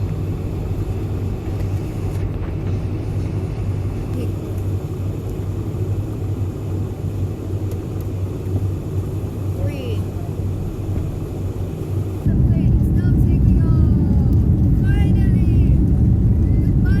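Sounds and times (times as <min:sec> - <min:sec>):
jet airliner taking off from cabin: 0:00.0 - 0:17.0.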